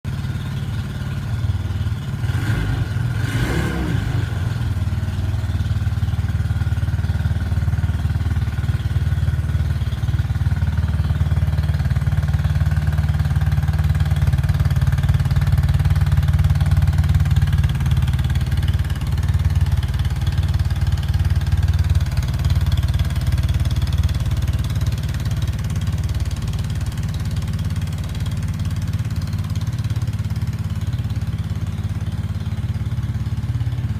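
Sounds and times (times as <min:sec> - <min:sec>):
scooter engine idling: 0:00.1 - 0:33.9.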